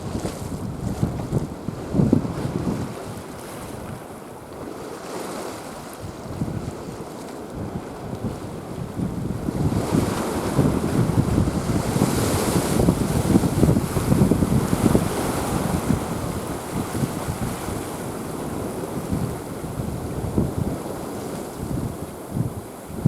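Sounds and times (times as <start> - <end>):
sea noise rushing: 0.0 - 23.0
wind buffeting microphone: 0.0 - 23.0.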